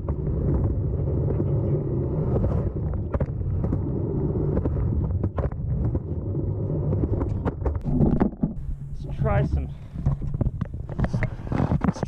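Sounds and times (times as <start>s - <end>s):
skateboard wheels rolling on pavement: 0.0s - 12.0s.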